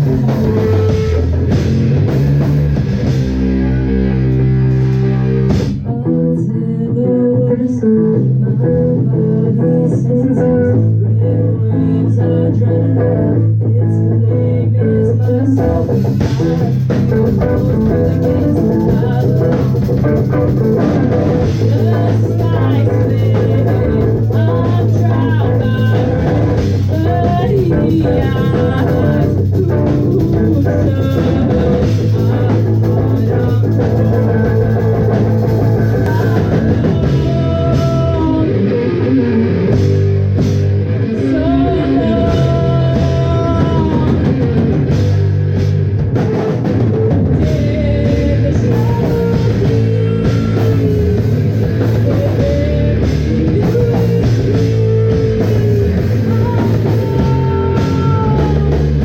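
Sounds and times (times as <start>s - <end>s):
drum kit: 0.0s - 7.2s, 8.2s - 59.0s
guitar: 0.0s - 59.0s
rock band playing: 0.0s - 59.0s.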